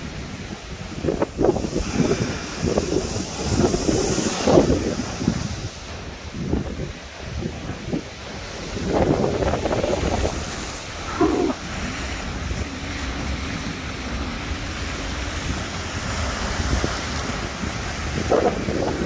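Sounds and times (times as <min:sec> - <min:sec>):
waves breaking against a wall: 0:00.0 - 0:19.0
wind buffeting microphone: 0:00.0 - 0:19.0.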